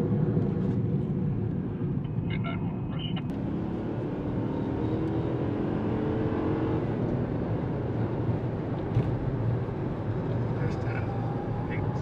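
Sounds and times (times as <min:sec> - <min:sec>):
engine roar with low rumble: 0:00.0 - 0:12.0.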